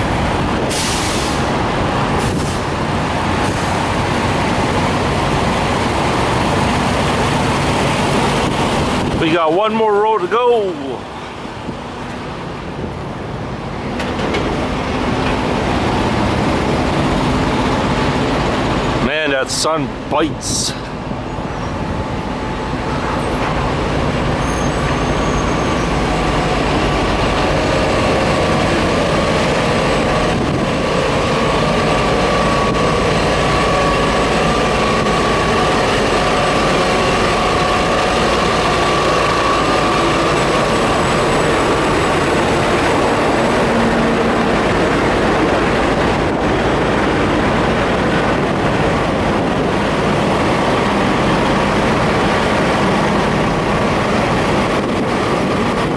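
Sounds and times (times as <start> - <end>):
diesel trucks idling: 0.0 - 55.9.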